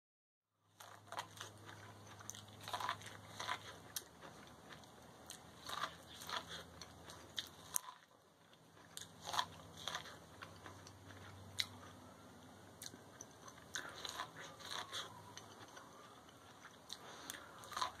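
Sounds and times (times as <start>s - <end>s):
person chewing corn on the cob: 0.7s - 18.0s.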